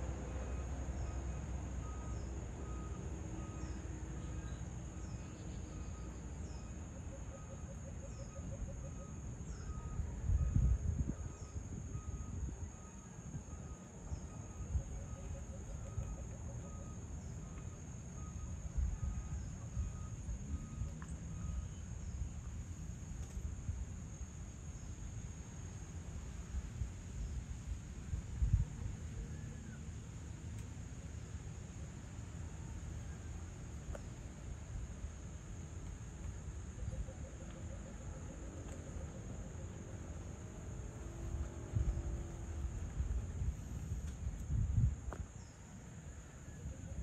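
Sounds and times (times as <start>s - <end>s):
cricket chirps: 0.0s - 47.0s
insects droning: 0.0s - 47.0s.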